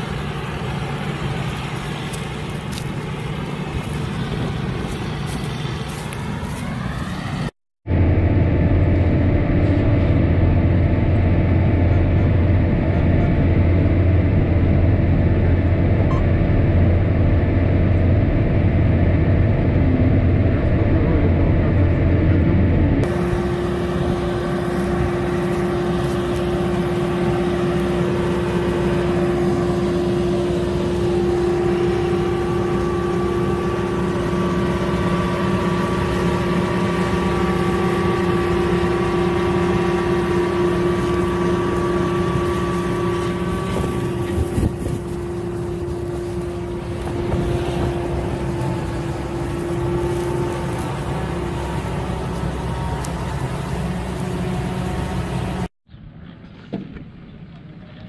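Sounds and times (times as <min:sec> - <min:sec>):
machine hum with whine: 0:00.0 - 0:58.0
muffled machine engine droning: 0:00.0 - 0:58.0.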